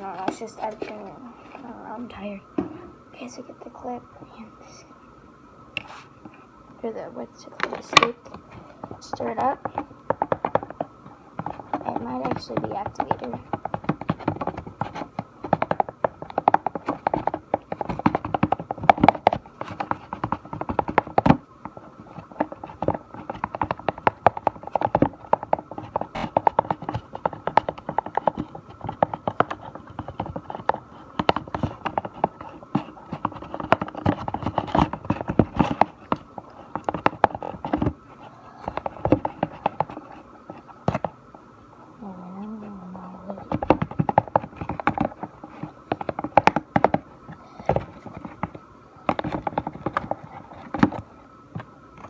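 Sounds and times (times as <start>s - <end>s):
sticky slime scraping: 5.8s - 41.2s, 42.4s - 52.0s.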